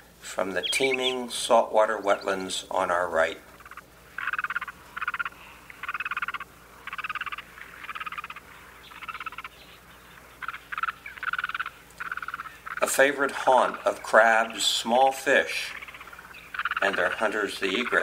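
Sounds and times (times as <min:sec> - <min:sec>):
frog trilling: 0:00.6 - 0:01.3, 0:02.0 - 0:18.0.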